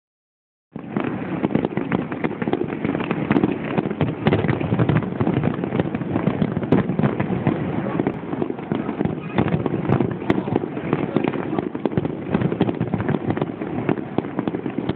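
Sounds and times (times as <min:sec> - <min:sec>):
fireworks bursting and crackling: 0:00.7 - 0:14.9.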